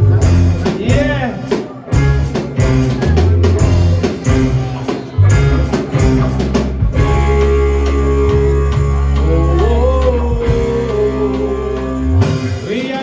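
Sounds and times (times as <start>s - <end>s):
drum kit: 0.0s - 13.0s
guitar: 0.0s - 13.0s
heavy bass line: 0.0s - 13.0s
reggae band playing live: 0.0s - 13.0s.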